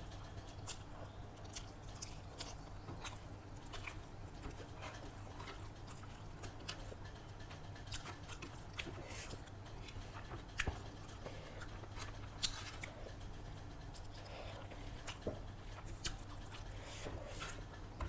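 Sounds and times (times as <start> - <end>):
faint low hum: 0.0 - 18.0
person chewing food: 0.0 - 18.0.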